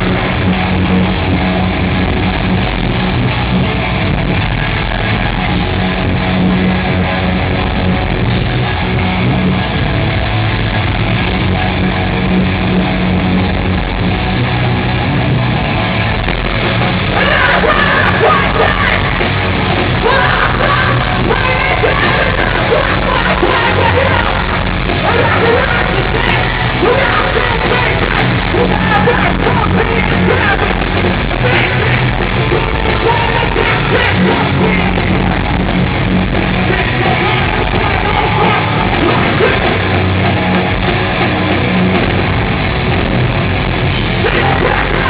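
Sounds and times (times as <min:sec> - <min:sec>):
heavy rock band playing: 0:00.0 - 0:45.0
yelled vocals: 0:00.0 - 0:45.0.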